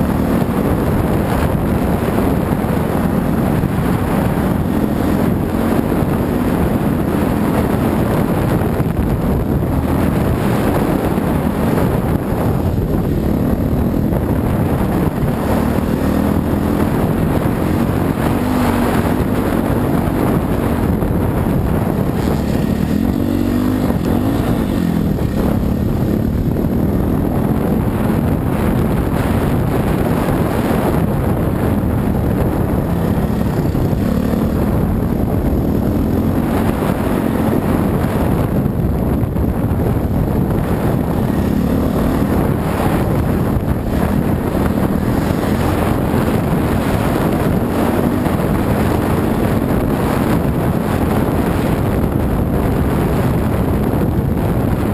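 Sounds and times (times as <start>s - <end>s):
dirt bike engine running: 0.0s - 54.9s
wind buffeting microphone: 0.0s - 54.9s.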